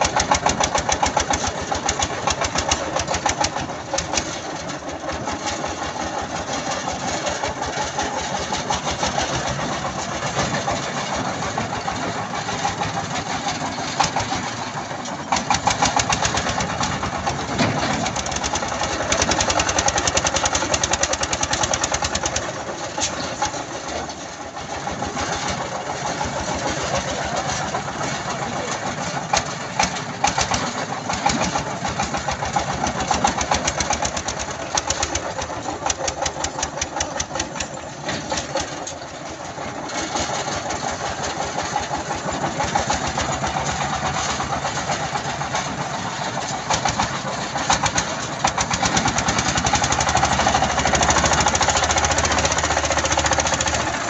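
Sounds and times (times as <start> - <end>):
tractor engine knocking: 0.0 - 54.0.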